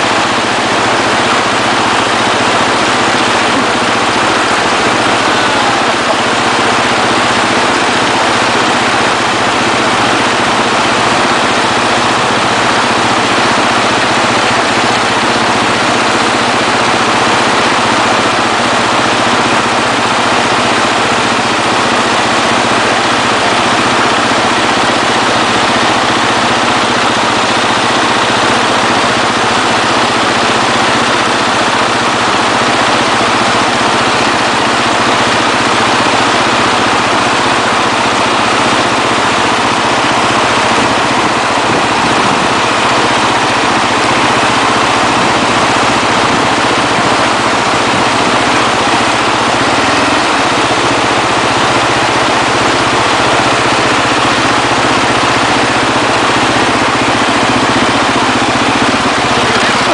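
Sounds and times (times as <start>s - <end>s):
motorbike engine running: 0.0s - 59.9s.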